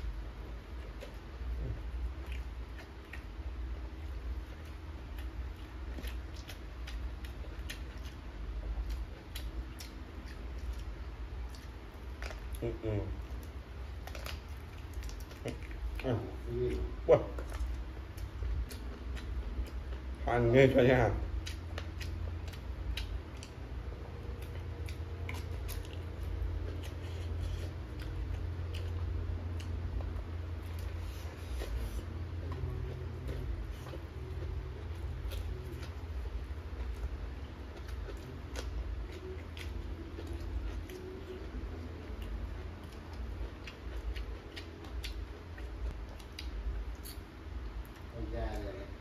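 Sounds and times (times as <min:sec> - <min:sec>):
person chewing: 0:00.0 - 0:48.7
low hum: 0:00.0 - 0:49.0.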